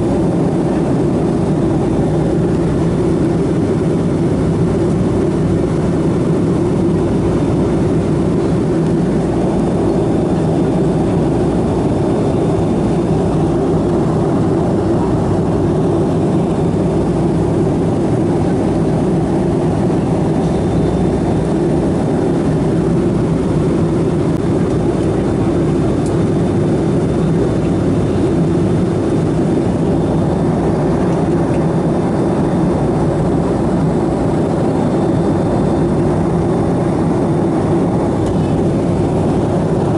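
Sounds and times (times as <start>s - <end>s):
jet cabin engine rush: 0.0s - 39.9s.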